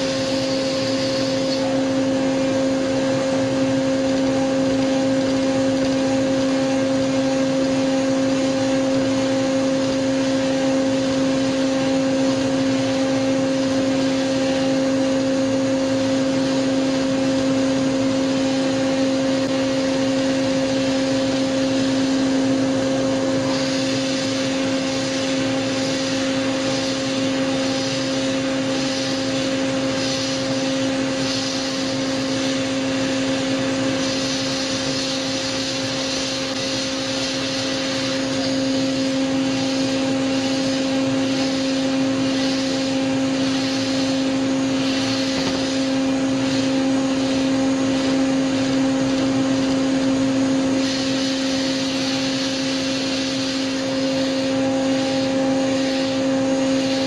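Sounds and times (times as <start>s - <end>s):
metal cutting hiss: 0.0s - 57.0s
milling machine whine: 0.0s - 57.0s.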